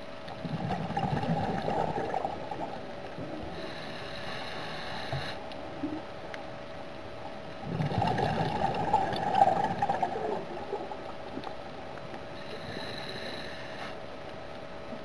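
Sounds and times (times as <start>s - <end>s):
steady underwater hum: 0.0s - 15.0s
underwater bubbles gurgling: 0.2s - 15.0s.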